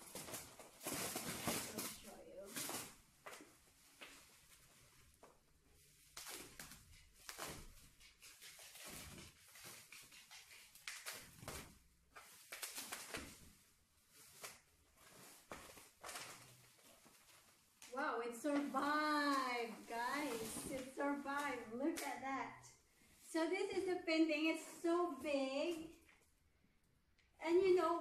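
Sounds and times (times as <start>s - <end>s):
bubble wrap rustling: 0.0s - 26.6s.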